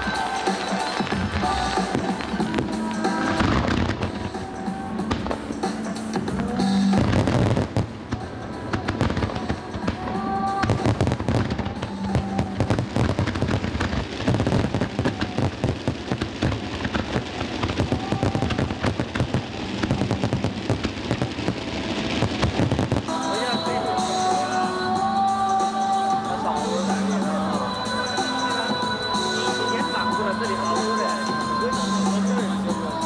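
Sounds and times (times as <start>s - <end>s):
fireworks crackling and popping: 0.0s - 33.0s
music playing: 0.0s - 33.0s.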